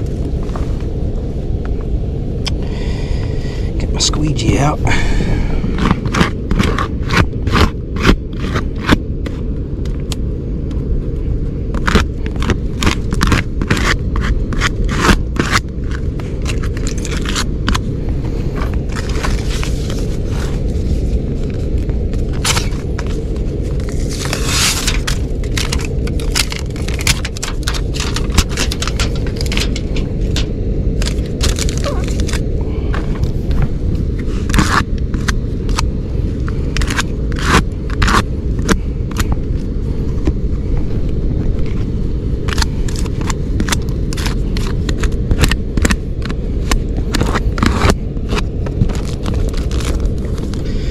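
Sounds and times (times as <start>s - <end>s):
low rumble: 0.0s - 50.9s
foil tape crinkling and scraping: 5.7s - 10.2s, 11.2s - 40.4s, 41.0s - 50.9s.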